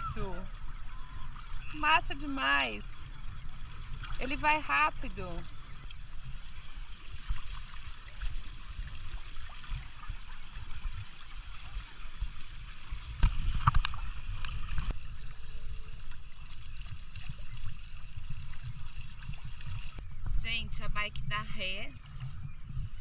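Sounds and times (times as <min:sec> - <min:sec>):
water splashing and gurgling: 0:00.0 - 0:23.0.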